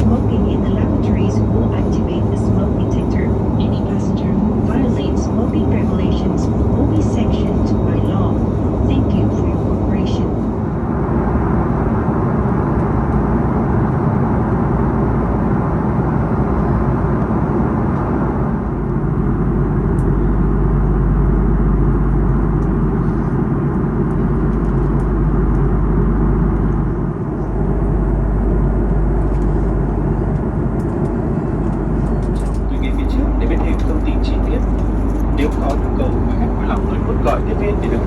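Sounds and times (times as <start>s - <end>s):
cabin airflow rush: 0.0s - 38.0s
low engine drone: 0.0s - 38.0s.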